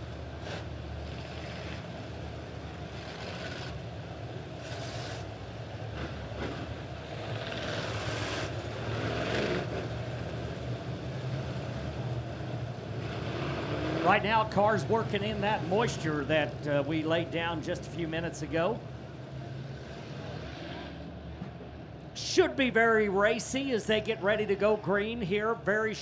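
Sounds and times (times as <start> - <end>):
race car engines running slowly: 0.0 - 26.0.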